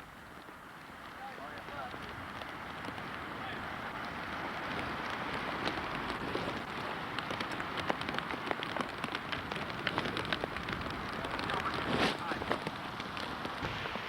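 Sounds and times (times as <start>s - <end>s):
heavy rain falling: 0.0s - 14.0s
raindrops ticking on a surface: 0.0s - 14.0s.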